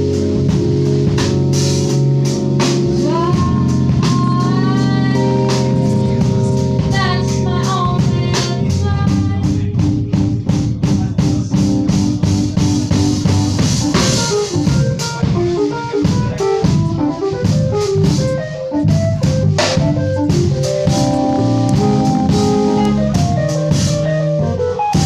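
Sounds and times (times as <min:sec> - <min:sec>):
drum kit beat: 0:00.0 - 0:25.0
electric bass: 0:00.0 - 0:25.0
keyboard: 0:00.0 - 0:25.0.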